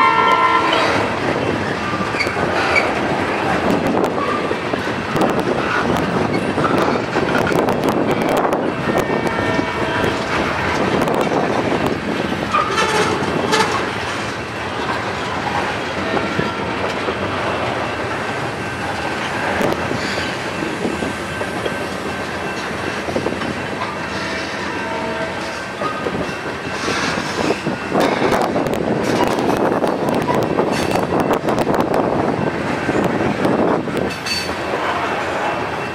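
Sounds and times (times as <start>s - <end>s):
train wheels clacking over rail joints: 0.2s - 35.9s.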